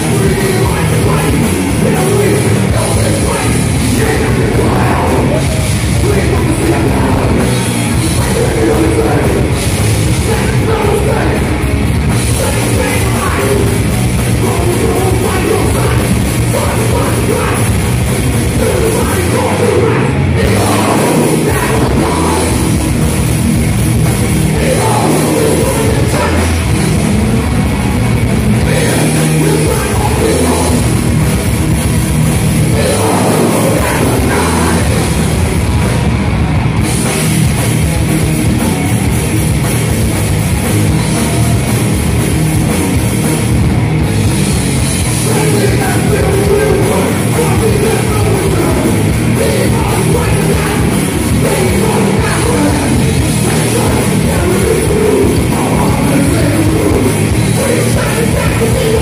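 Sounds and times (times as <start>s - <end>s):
drum kit: 0.0s - 59.0s
heavy metal music: 0.0s - 59.0s.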